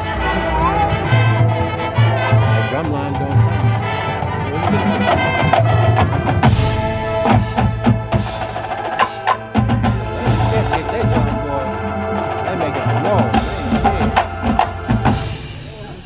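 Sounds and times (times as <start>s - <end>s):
drum strikes: 0.0s - 16.0s
marching band playing: 0.0s - 16.0s.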